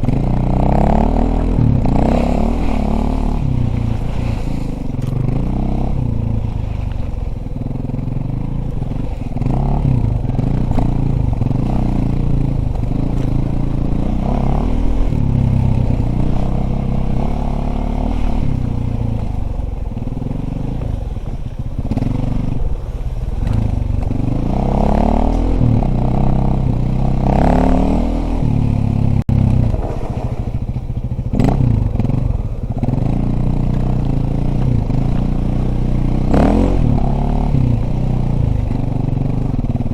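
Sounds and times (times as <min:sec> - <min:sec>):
rattling clatter from bike: 0:00.0 - 0:24.8, 0:25.6 - 0:36.2
dirt bike engine revving: 0:00.0 - 0:39.9.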